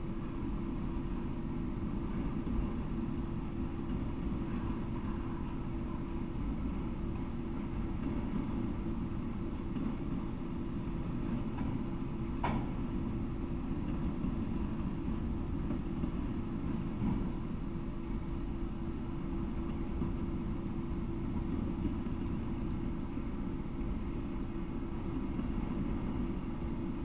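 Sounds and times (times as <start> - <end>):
steel wheels rumbling on rails: 0.0 - 27.0.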